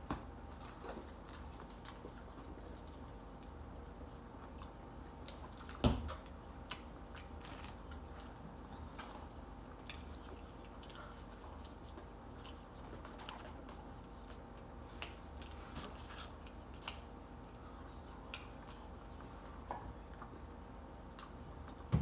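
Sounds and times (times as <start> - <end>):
wet chewing: 0.0 - 21.8
faint steady hum: 0.0 - 22.0.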